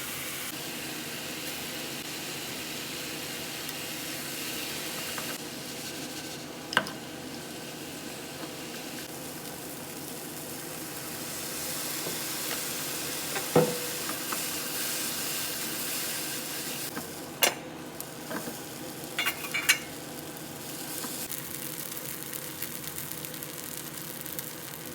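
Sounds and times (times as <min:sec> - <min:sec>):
noodles sizzling in frying pan: 0:00.0 - 0:24.9.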